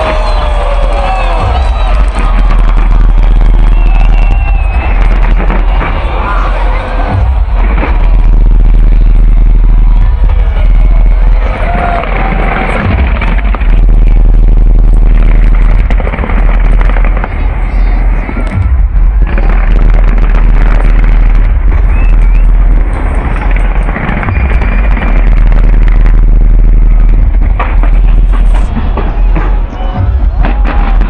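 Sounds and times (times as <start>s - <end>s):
fireworks bursting: 0.0s - 31.0s.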